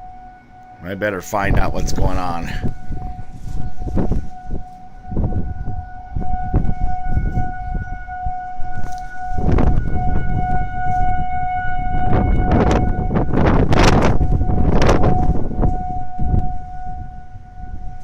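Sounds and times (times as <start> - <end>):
tornado warning siren steady tone: 0.0 - 18.0
wind buffeting microphone: 1.1 - 18.0.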